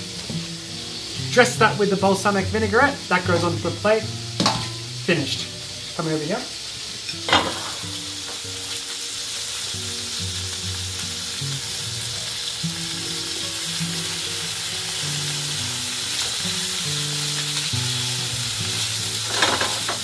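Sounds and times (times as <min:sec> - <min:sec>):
fish sizzling in hot oil: 0:00.0 - 0:20.0.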